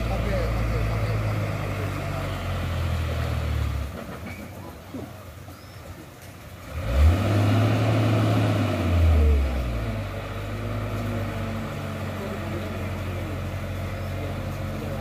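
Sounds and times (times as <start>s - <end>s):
truck diesel engine revving: 0.0s - 4.2s, 6.6s - 15.0s.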